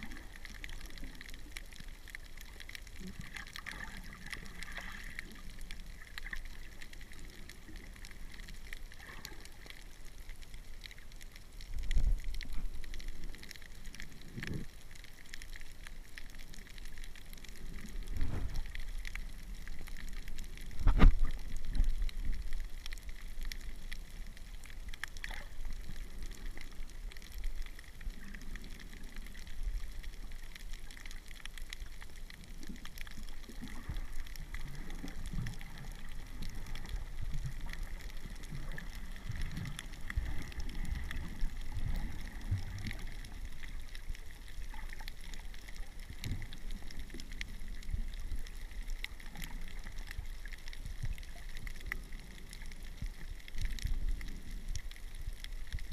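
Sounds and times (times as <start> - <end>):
faint clicks: 0.0 - 55.9
muffled underwater water sloshing: 0.0 - 55.9.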